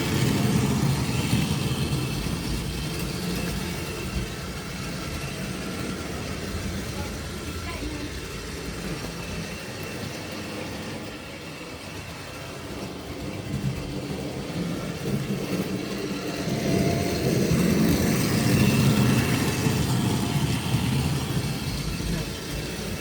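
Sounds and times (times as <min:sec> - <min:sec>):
model train running on track: 0:00.0 - 0:23.0.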